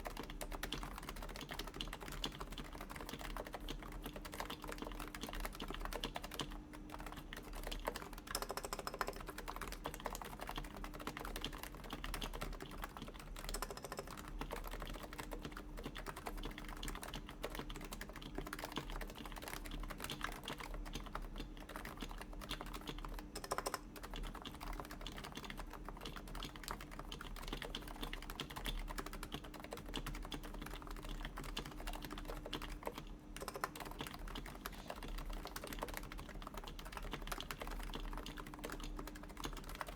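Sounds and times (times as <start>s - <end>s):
soft keyboard keystrokes: 0.0s - 39.9s.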